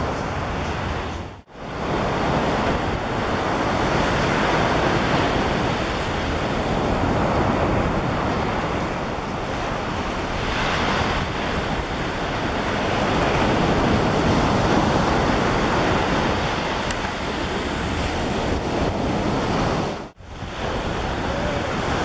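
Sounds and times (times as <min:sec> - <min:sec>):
surf rushing: 0:00.0 - 0:22.0
wind buffeting microphone: 0:00.0 - 0:22.0.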